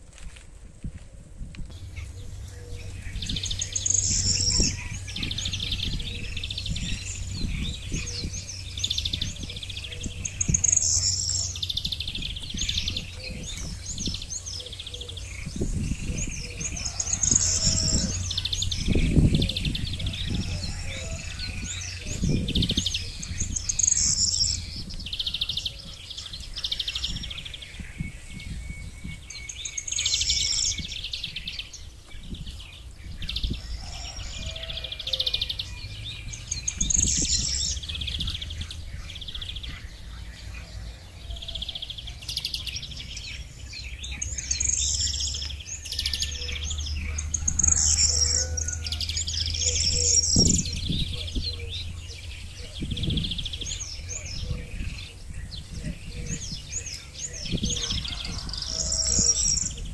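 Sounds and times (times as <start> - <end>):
low rumbling noise: 0.0 - 59.9
small birds chirping and singing: 0.0 - 59.9.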